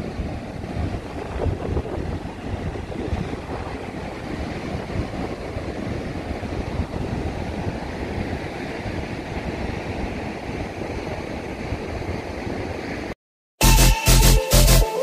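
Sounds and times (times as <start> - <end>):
sea surf breaking on a beach: 0.0 - 13.1
wind buffeting the microphone: 0.0 - 13.1.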